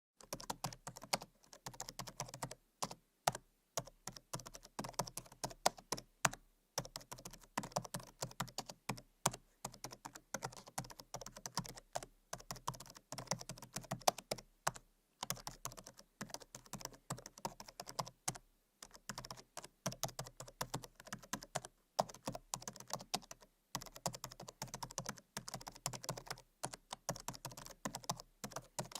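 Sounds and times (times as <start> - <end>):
typing on laptop keyboard: 0.2 - 28.9.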